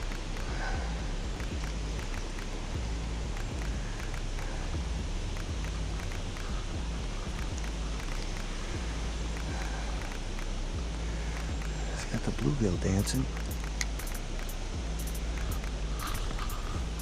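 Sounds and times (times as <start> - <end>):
faint ticks: 0.0 - 11.9, 13.0 - 17.0
outdoor rushing hiss: 0.0 - 17.0.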